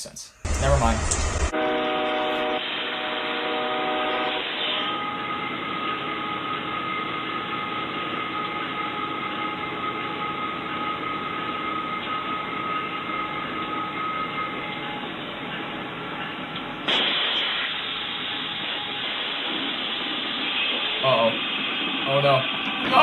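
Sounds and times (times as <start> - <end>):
train rumbling: 0.4 - 23.0.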